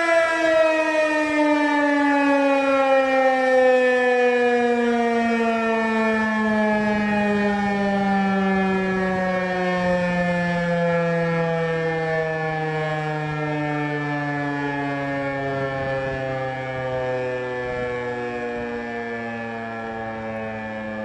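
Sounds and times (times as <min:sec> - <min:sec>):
warning siren winding down: 0:00.0 - 0:21.0.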